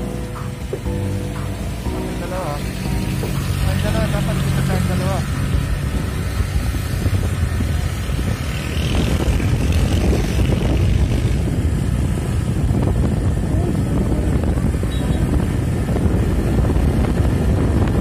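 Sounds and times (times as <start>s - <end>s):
road noise: 0.0s - 18.0s
scooter engine: 0.0s - 18.0s
wind buffeting microphone: 2.8s - 18.0s.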